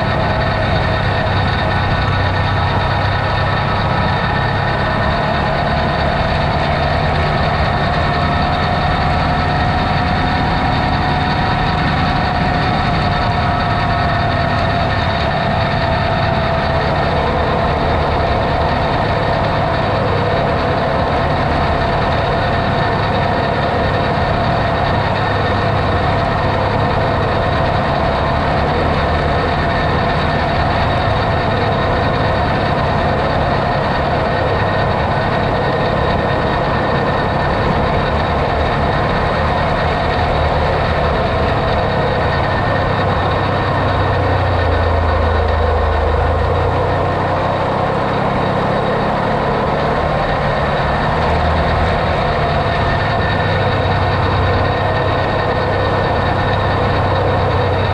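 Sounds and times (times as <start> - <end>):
constant whine: 0.0 - 57.9
vehicle engine running: 0.0 - 57.9.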